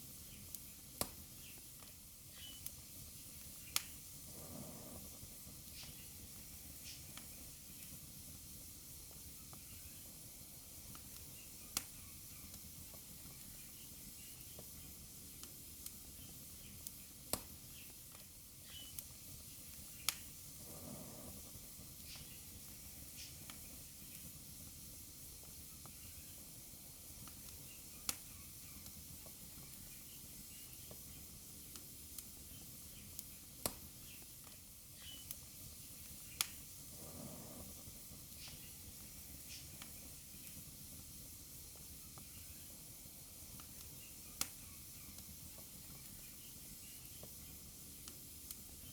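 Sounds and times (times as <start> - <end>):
sharp pops of fire: 0.0 - 8.1, 10.8 - 48.9
wood fire hissing and crackling: 0.0 - 48.9.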